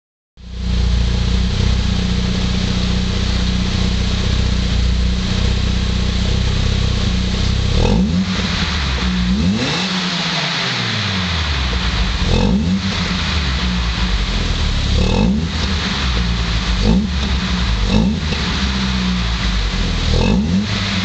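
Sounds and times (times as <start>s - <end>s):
car engine idling: 0.4s - 21.0s
car engine revving: 0.5s - 21.0s.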